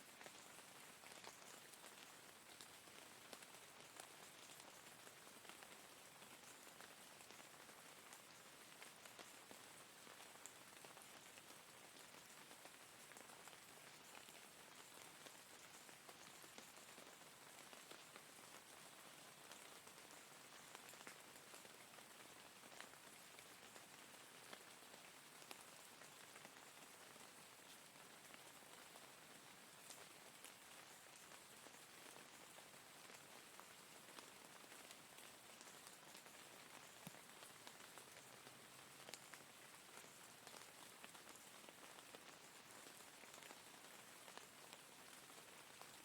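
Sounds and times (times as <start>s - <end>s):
rain pattering: 0.0s - 46.0s.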